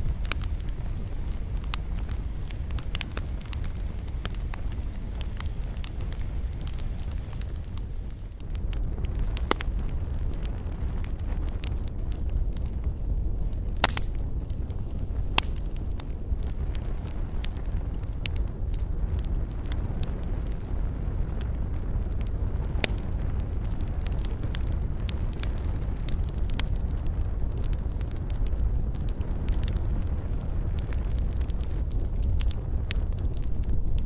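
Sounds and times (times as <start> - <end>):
low rumble of fire: 0.0 - 34.0
wood fire crackling: 0.0 - 34.0.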